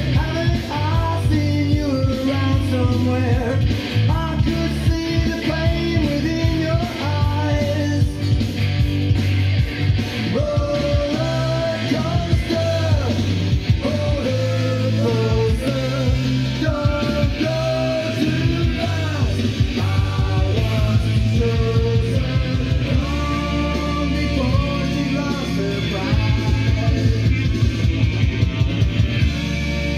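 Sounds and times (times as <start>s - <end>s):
rock song from vinyl record: 0.0s - 29.9s.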